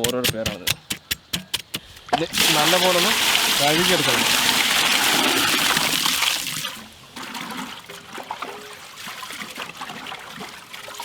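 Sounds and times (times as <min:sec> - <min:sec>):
small splashes and knocks: 0:00.0 - 0:11.0
running water gushing: 0:01.7 - 0:11.0
water trickling: 0:01.9 - 0:11.0.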